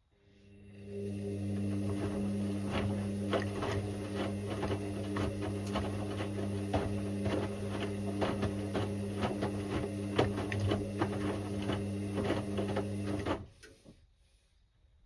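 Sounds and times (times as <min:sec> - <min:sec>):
washing machine hum: 0:00.2 - 0:13.8.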